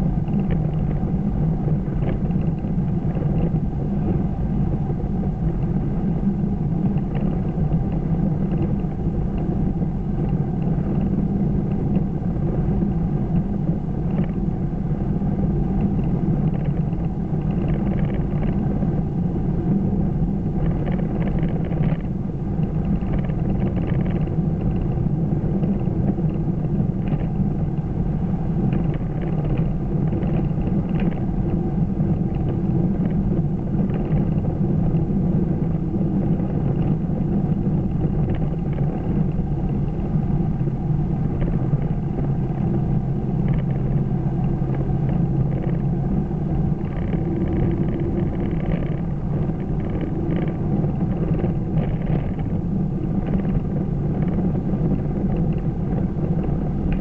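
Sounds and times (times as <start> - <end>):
engine drone: 0.0 - 57.0
tyre and road noise: 0.0 - 57.0.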